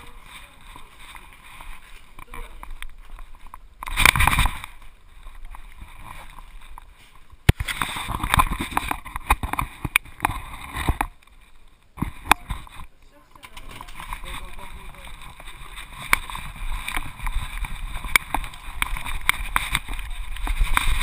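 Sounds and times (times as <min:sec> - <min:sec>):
camera rustling and rubbing: 0:00.0 - 0:21.0.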